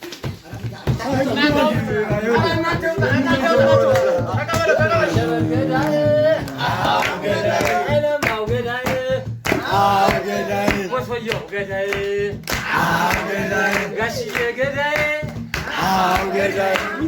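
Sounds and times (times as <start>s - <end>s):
rhythmic hand clapping: 0.0s - 17.0s
group singing: 0.8s - 17.0s.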